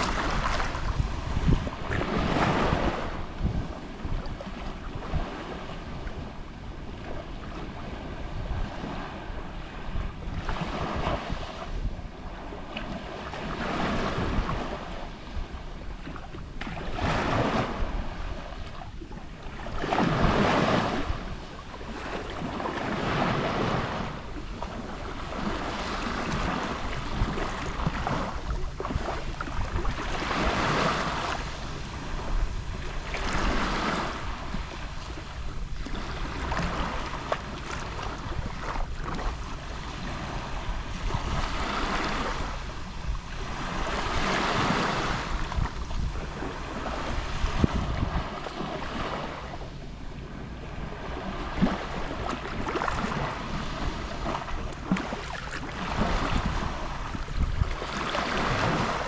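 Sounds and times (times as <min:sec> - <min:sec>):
small waves lapping on shore: 0:00.0 - 0:59.0
wind rumble on microphone: 0:00.0 - 0:59.0.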